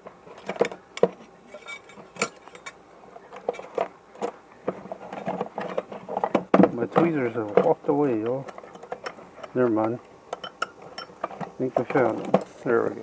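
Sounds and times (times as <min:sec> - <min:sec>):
small metal tools clinking: 0:01.5 - 0:04.4, 0:05.1 - 0:13.0.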